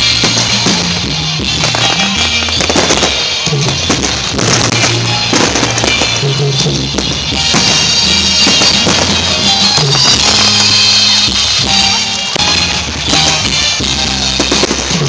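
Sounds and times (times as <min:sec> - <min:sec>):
fireworks bangs and crackling: 0:00.0 - 0:15.0
loud music with bass line: 0:00.0 - 0:15.0.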